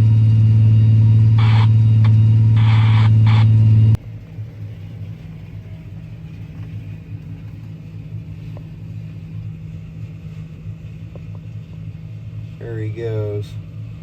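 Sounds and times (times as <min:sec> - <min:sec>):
diesel machinery engine humming: 0:00.0 - 0:14.0.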